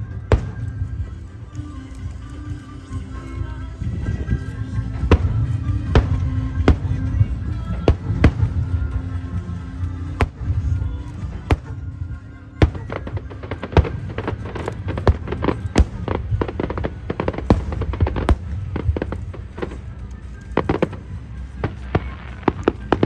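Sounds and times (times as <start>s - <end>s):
fireworks bangs and crackling: 0.0s - 23.0s
low rumble: 0.0s - 23.0s.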